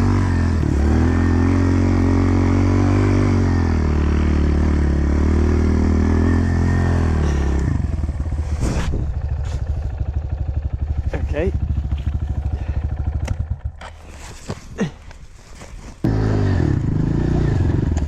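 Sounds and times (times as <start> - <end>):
small motorcycle engine running: 0.0 - 13.9, 16.0 - 18.0.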